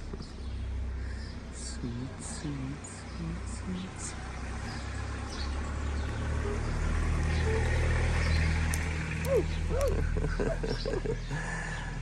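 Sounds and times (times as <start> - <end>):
vehicle engine passing by: 2.1 - 11.8.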